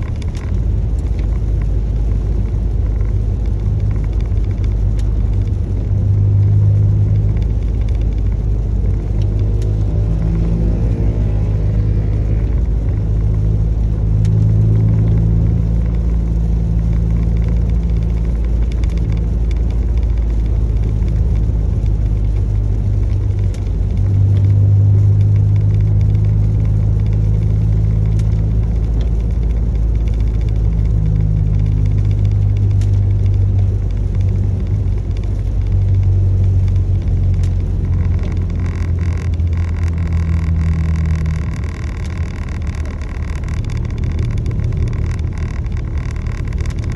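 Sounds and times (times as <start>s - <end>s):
engine rumbling: 0.0s - 46.9s.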